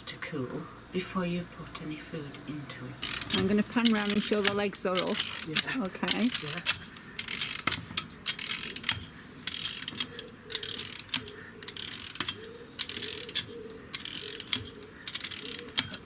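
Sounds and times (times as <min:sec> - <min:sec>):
metal ratcheting mechanism rasping: 0:03.0 - 0:16.0
sharp clicks: 0:03.0 - 0:16.0.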